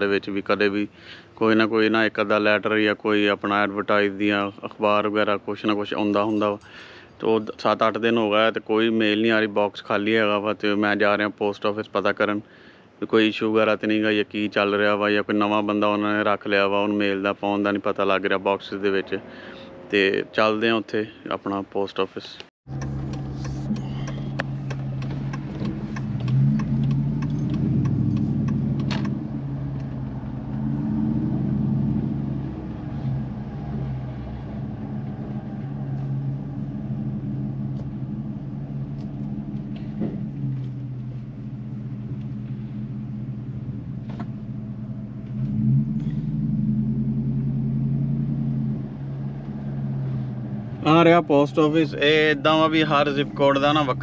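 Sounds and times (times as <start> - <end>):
car engine and road noise: 0.0 - 11.0, 17.7 - 20.8, 22.6 - 54.0.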